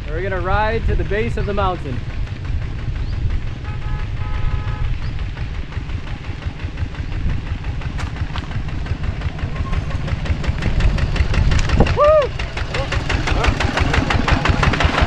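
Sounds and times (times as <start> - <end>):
wind buffeting microphone: 0.0 - 14.9
cart engine thumping: 0.1 - 15.0.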